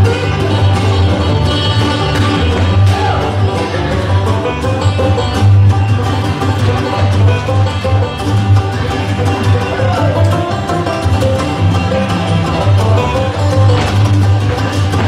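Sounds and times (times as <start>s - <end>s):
loud country music: 0.0s - 15.0s.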